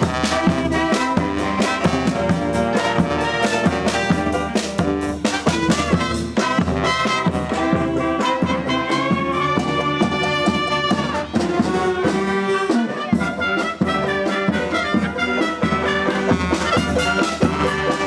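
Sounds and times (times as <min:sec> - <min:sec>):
steady drum beat: 0:00.0 - 0:18.0
trumpets and trombones: 0:00.0 - 0:18.0.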